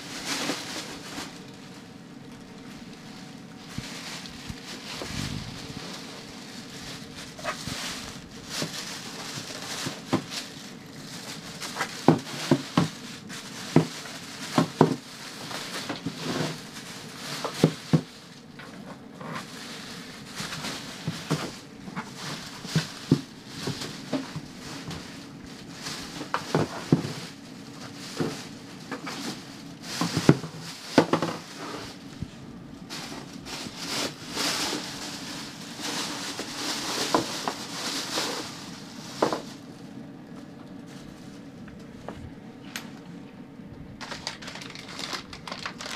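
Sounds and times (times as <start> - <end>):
sharp crackles and knocks: 0.0 - 39.6, 44.0 - 45.9
plastic bag crinkling: 0.0 - 42.6, 43.9 - 45.9.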